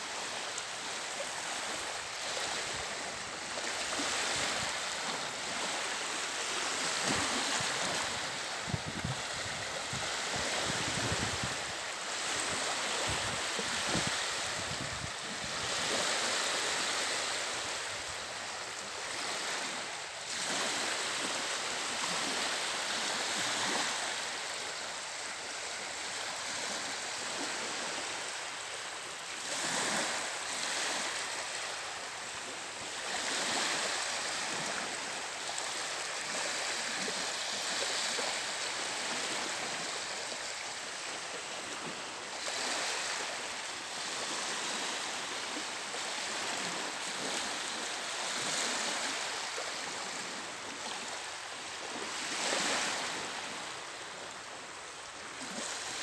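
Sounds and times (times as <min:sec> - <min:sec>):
gentle surf on sandy beach: 0:00.0 - 0:56.0.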